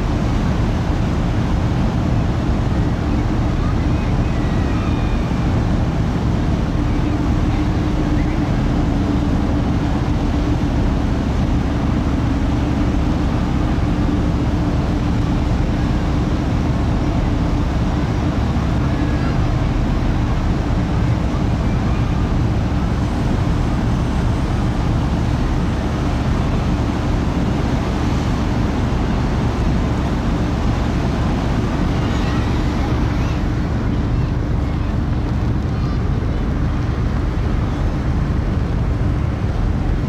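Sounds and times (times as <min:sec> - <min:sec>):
ship engines rumbling: 0:00.0 - 0:40.0
water noise: 0:00.0 - 0:40.0
wind: 0:00.0 - 0:40.0.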